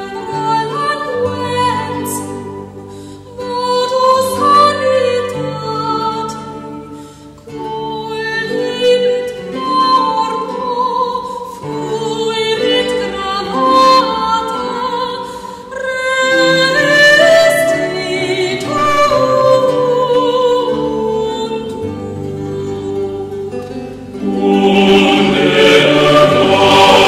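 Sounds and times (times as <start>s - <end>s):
classical operatic music: 0.0s - 27.0s.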